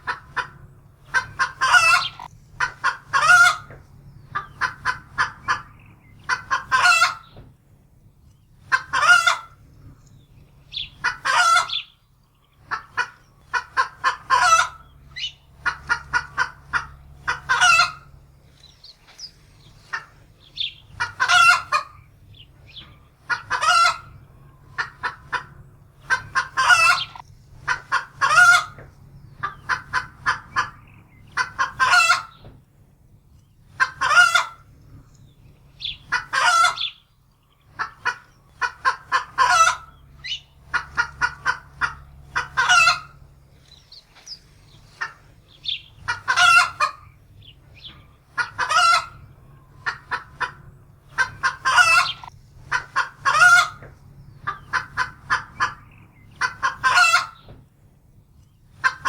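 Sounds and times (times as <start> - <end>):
hen cackling in alarm: 0.0 - 7.4, 8.6 - 9.6, 10.6 - 12.0, 12.6 - 32.4, 33.7 - 34.7, 35.7 - 57.5.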